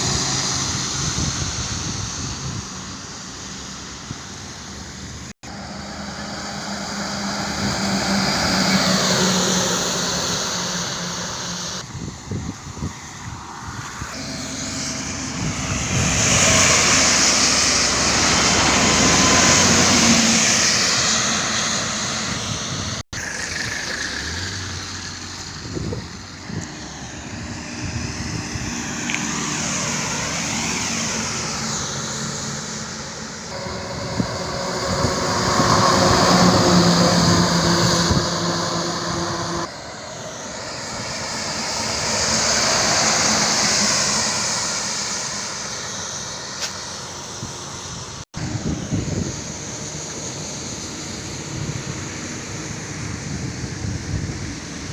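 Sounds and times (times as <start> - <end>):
vehicles passing on highway: 0.0 - 54.9.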